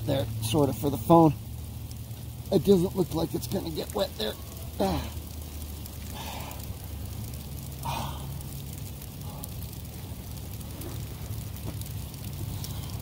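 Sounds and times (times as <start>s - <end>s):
low rumble: 0.0s - 13.0s
rain drops ticking and dripping: 0.0s - 13.0s.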